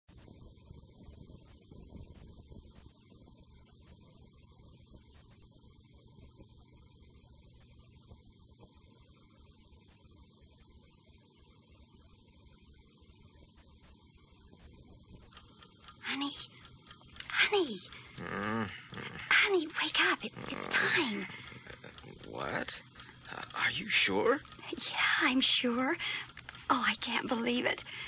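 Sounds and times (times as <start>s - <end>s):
faint low hum with hiss: 0.1s - 28.0s.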